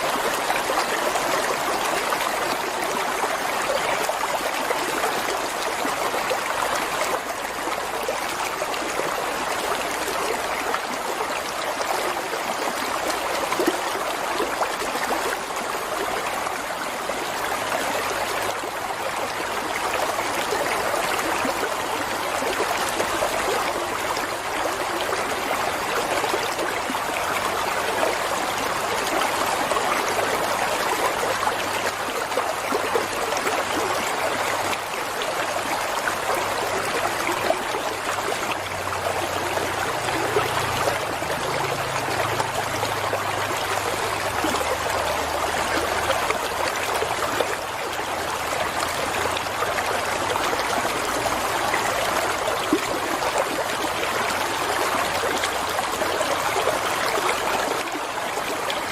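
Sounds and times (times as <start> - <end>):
water flowing: 0.0 - 58.9.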